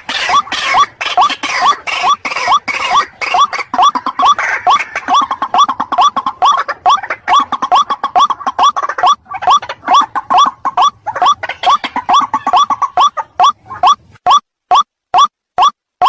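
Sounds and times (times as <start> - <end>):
overlapping background bird calls: 0.0 - 15.7
waterhen calling: 0.0 - 15.7.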